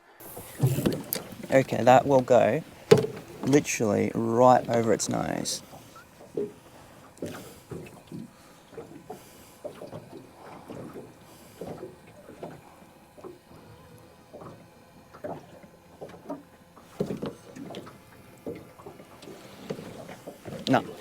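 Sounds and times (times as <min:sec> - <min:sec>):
water lapping against boat hull: 0:00.2 - 0:21.0.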